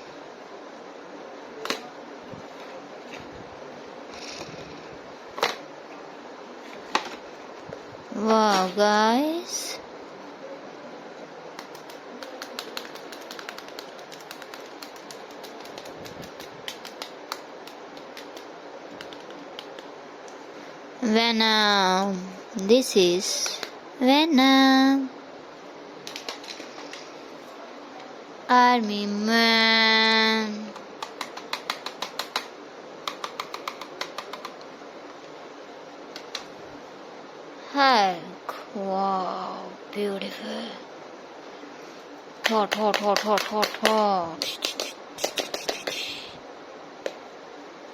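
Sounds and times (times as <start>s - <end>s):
steady background hiss: 0.0s - 47.9s.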